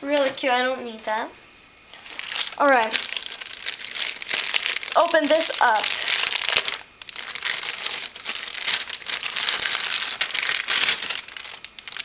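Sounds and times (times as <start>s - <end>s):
plastic wrapper crinkling: 1.9s - 12.0s.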